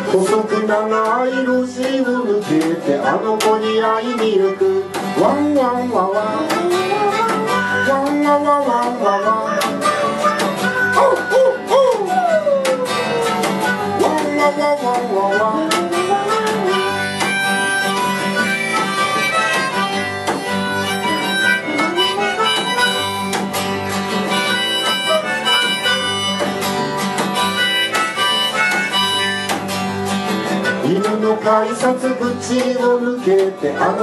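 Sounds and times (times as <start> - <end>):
harmonica melody: 0.0 - 34.0
strummed acoustic guitar: 0.0 - 34.0
upright bass: 0.0 - 34.0.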